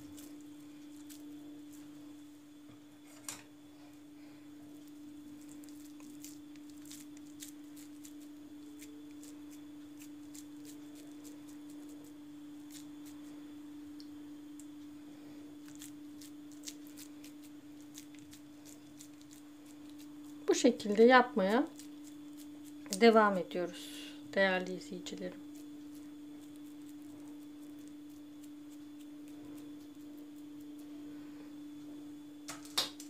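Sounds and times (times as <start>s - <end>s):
wet hands squishing minced meat: 0.0s - 2.4s, 4.6s - 23.3s, 25.4s - 31.1s
steady low hum: 0.0s - 33.0s.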